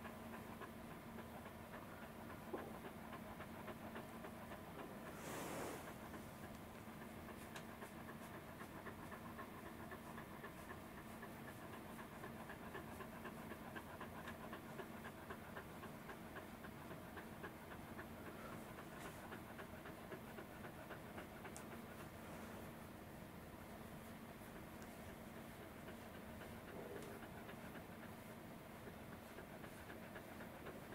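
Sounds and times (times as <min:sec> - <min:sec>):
dog panting: 0:00.0 - 0:30.9.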